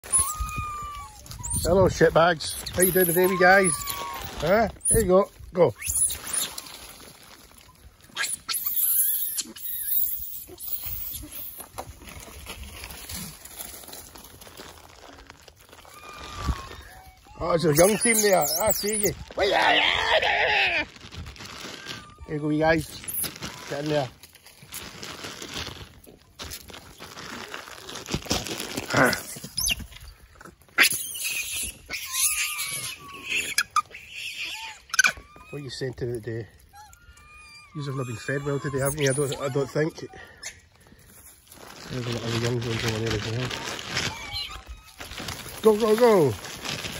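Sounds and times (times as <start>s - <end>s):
macaques squealing and grunting: 0.0s - 13.6s, 15.7s - 23.9s, 28.9s - 40.7s, 41.7s - 46.8s.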